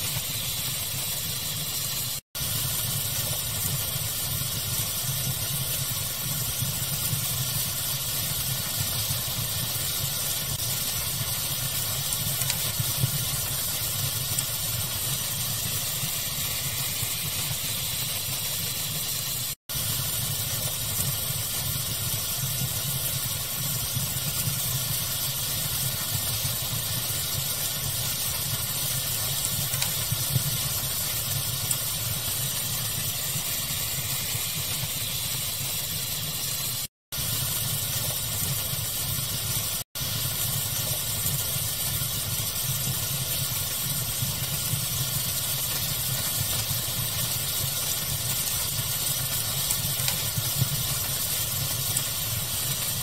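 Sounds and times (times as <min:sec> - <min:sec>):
pink noise hiss: 0:00.0 - 0:53.0
wood fire crackling: 0:00.0 - 0:53.0.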